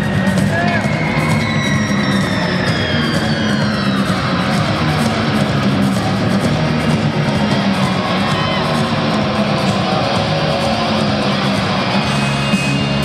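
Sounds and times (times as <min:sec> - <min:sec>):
rock music over loudspeaker: 0:00.0 - 0:13.0.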